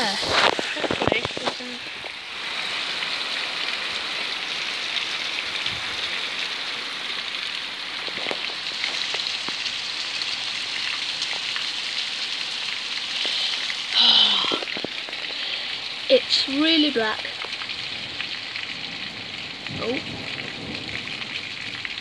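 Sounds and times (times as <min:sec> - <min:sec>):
raindrops ticking close by: 0:00.0 - 0:22.0
steady rain on roofs and pavement: 0:00.0 - 0:22.0.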